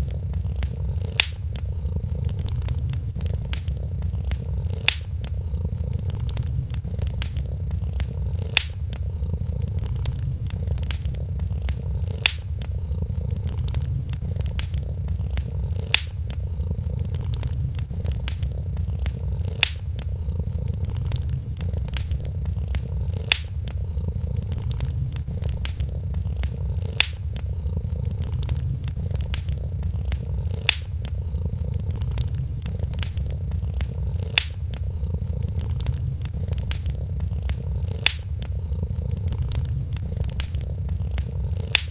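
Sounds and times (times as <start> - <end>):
cat purring: 0.0 - 41.9
fire popping: 0.0 - 41.9
wood fire crackling: 0.0 - 41.9.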